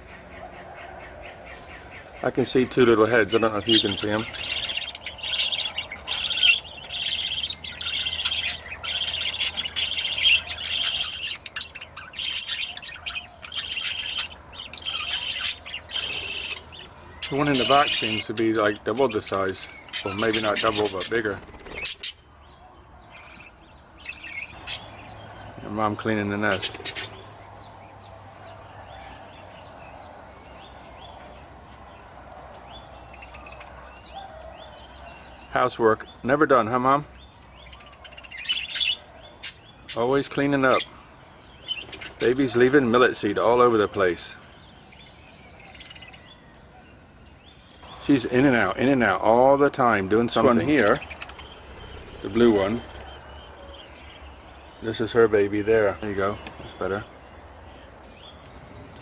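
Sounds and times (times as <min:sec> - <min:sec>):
budgerigars chirping: 0:00.0 - 0:58.5.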